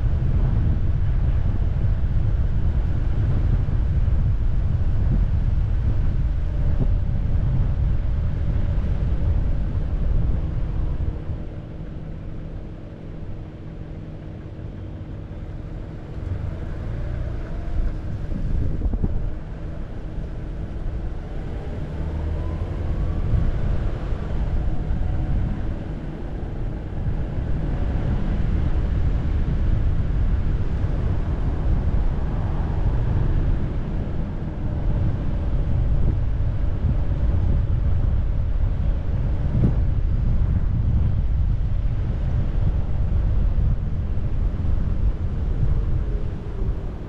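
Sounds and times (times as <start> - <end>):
car driving heard from inside: 0.0 - 47.0.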